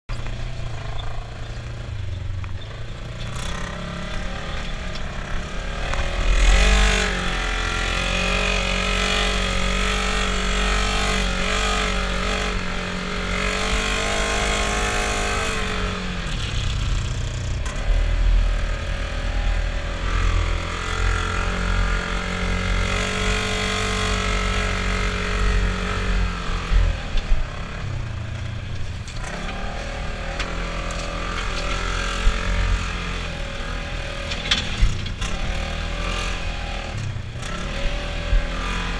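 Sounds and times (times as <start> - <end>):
engine revving: 3.0 - 38.9.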